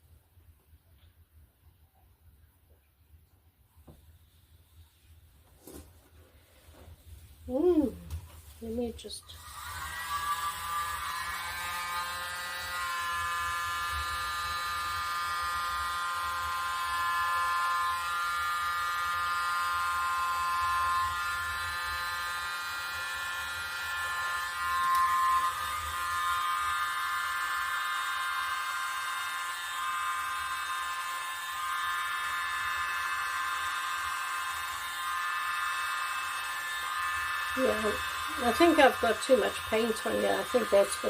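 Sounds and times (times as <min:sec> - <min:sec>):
handheld electric blower whining: 0:07.8 - 0:41.0.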